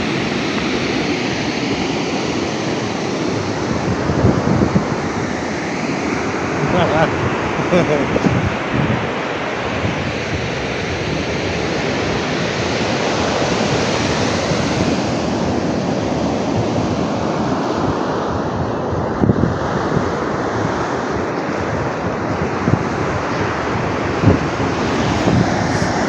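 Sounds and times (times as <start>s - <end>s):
seawater surging: 0.0s - 26.0s
wind buffeting microphone: 0.0s - 26.0s.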